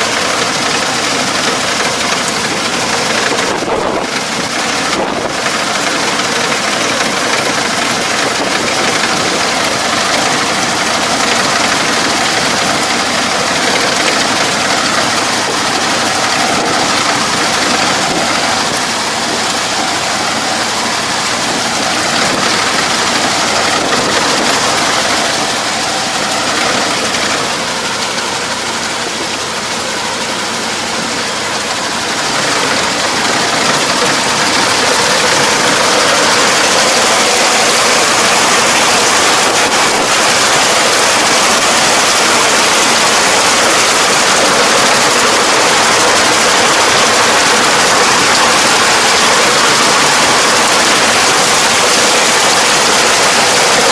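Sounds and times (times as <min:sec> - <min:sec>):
farm machine engine running: 0:00.0 - 0:53.9.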